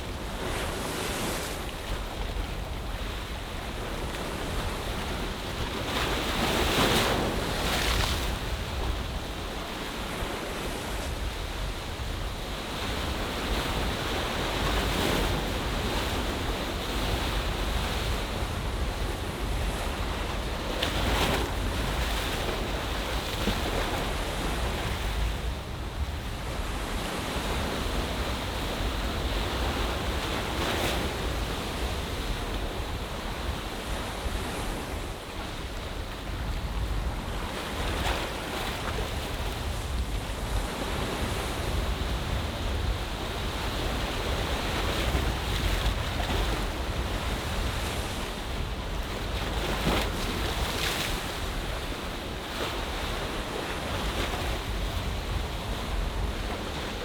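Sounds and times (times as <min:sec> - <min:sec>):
low wind rumble on microphone: 0:00.0 - 0:57.0
ocean waves washing: 0:00.0 - 0:57.0.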